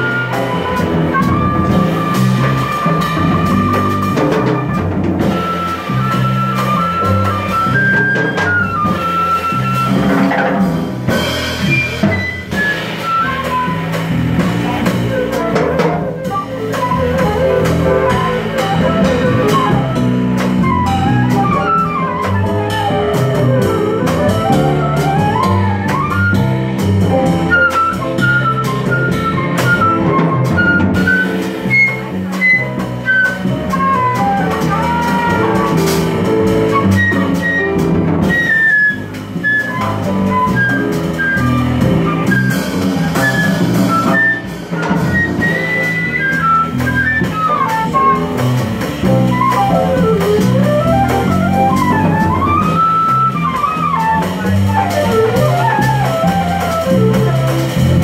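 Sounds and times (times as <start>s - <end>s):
double bass: 0.0s - 58.0s
drum kit with cymbals: 0.0s - 58.0s
flute solo: 0.0s - 58.0s.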